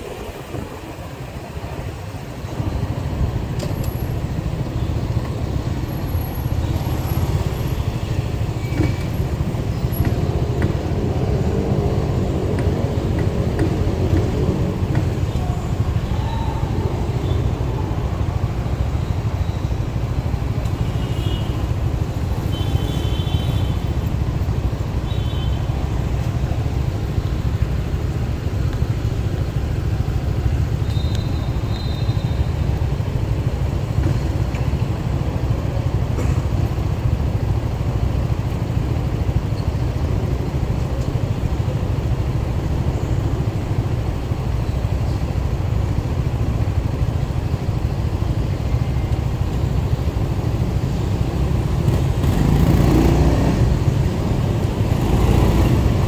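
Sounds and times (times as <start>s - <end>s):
hum of cars: 0.0s - 56.0s
motorcycle engine rumble: 0.0s - 56.0s.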